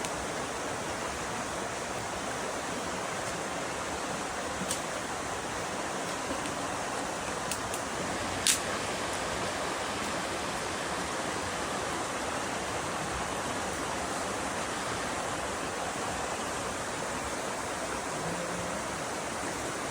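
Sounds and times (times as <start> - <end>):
flowing water rushing: 0.0 - 19.9.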